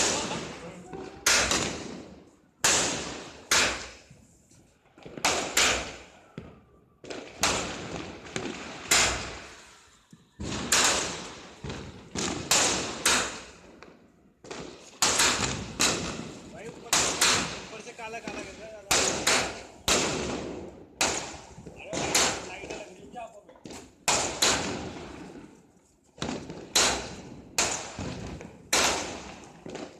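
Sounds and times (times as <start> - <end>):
fireworks exploding with echo: 0.0 - 29.9.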